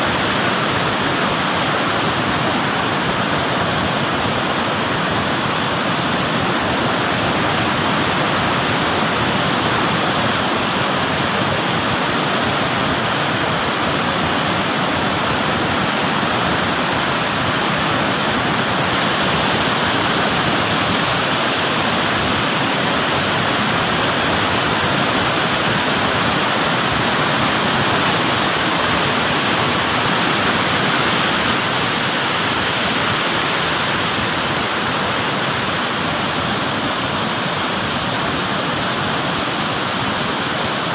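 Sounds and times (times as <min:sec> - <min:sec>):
loud rushing water: 0:00.0 - 0:40.9.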